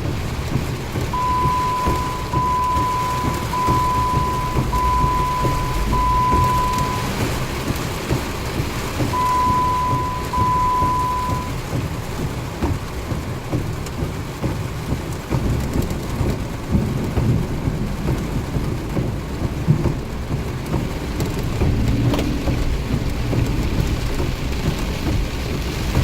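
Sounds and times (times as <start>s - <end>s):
heavy rain falling: 0.0s - 26.0s
low thunder rumbling: 0.1s - 11.6s, 15.4s - 26.0s.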